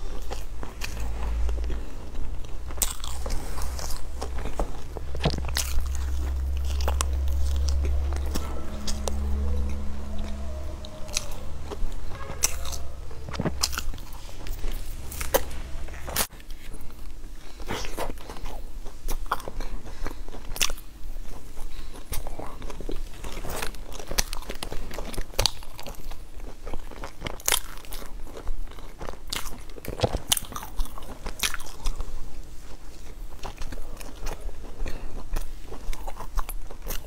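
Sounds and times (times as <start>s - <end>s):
crunching pastry: 0.0s - 37.0s
soft chewing: 0.0s - 37.0s.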